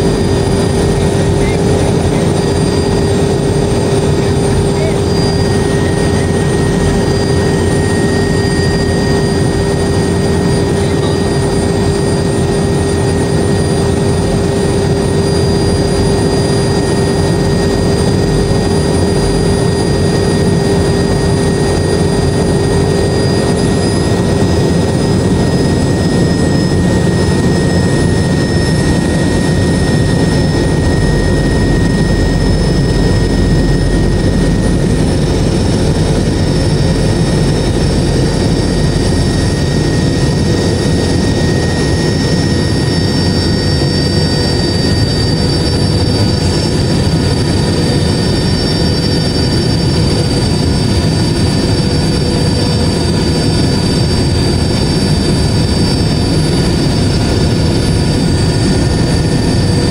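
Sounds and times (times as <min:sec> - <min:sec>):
helicopter engines and rotor: 0:00.0 - 0:59.9
high turbine whine: 0:00.0 - 0:59.9.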